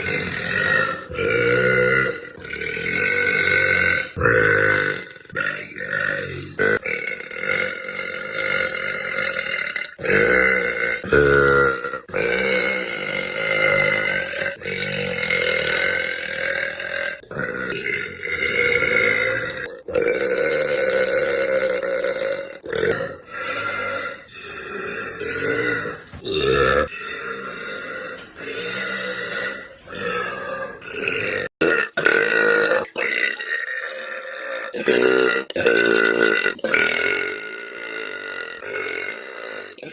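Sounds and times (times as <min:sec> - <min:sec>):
girl burping loudly: 0:00.0 - 0:39.9.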